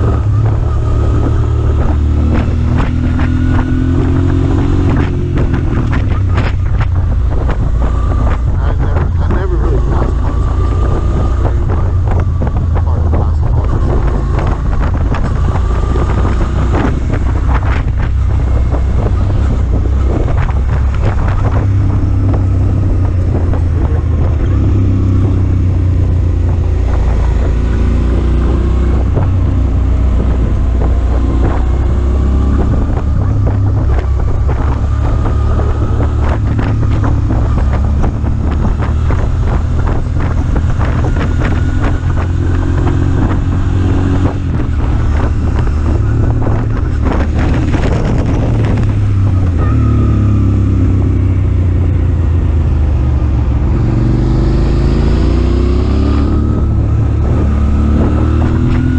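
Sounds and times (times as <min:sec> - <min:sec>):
motorcycle engine: 0:00.0 - 0:58.9
wind buffeting microphone: 0:00.0 - 0:58.9.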